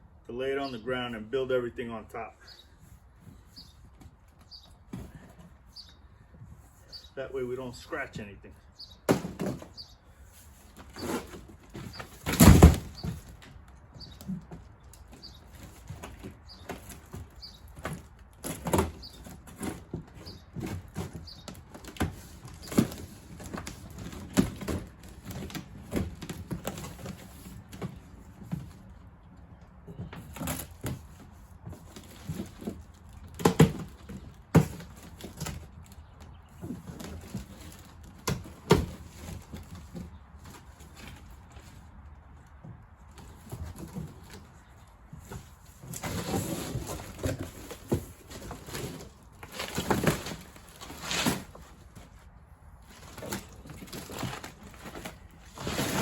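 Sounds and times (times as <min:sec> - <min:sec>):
cardboard rustling and flapping: 0:09.1 - 0:56.0.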